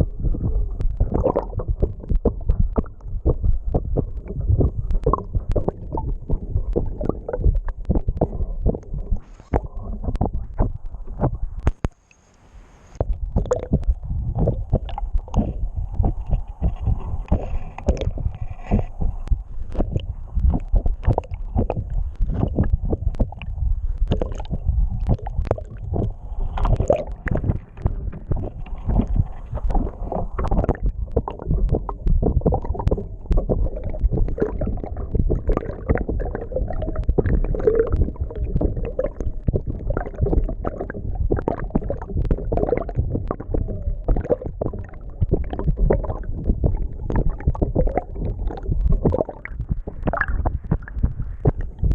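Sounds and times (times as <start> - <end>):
underwater water rushing: 0.0 - 11.8, 13.0 - 51.9.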